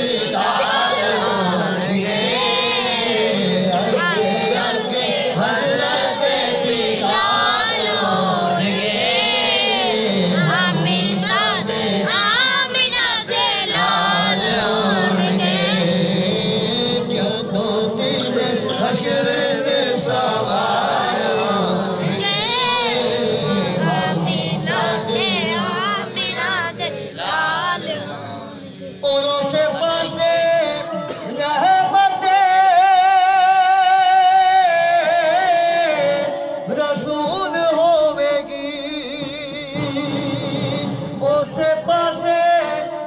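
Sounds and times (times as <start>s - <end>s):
man singing into microphone: 0.0s - 43.0s.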